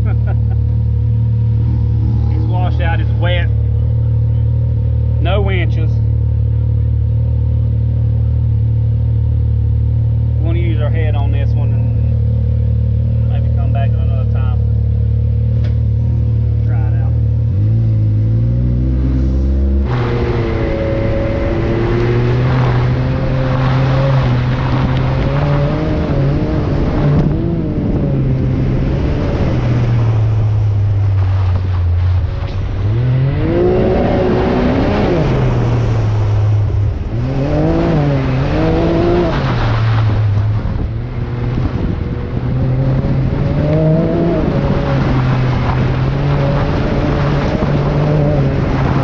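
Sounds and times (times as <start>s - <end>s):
utility vehicle engine revving: 0.0s - 49.0s.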